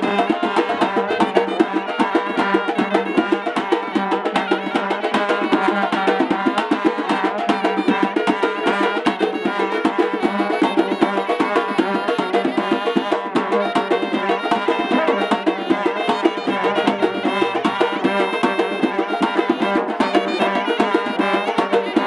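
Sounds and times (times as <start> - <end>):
fast hand drumming: 0.0 - 22.0
reedy wind instrument melody: 0.0 - 22.0.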